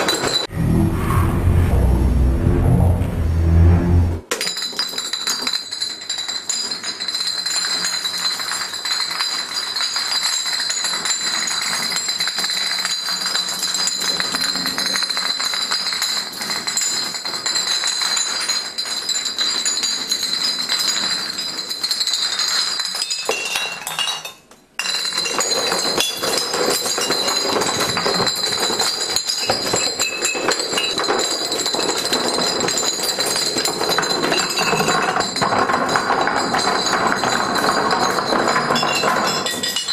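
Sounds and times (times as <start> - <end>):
glass bottles toppling and clinking: 0.0 - 0.5, 4.3 - 39.9.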